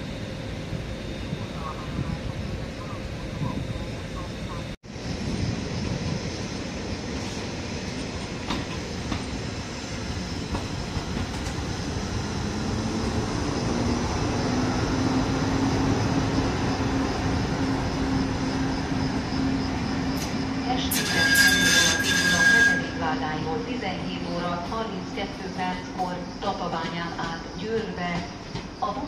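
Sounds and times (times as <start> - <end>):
train wheels rolling on rails: 3.3 - 29.0.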